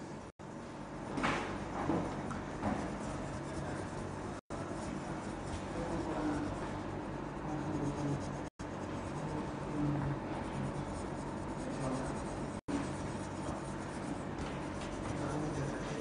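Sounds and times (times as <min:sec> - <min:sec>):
colouring pencil scratching on paper: 0:02.1 - 0:16.0.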